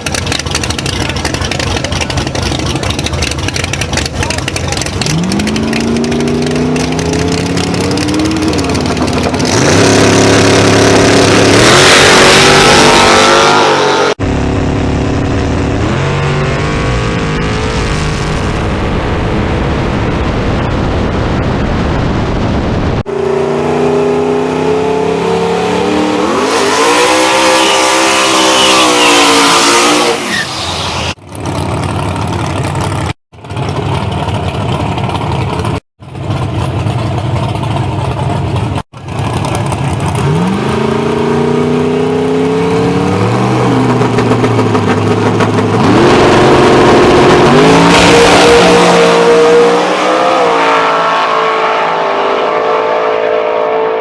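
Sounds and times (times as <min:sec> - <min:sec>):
race car engines revving: 0:00.0 - 0:19.6, 0:23.0 - 0:54.0.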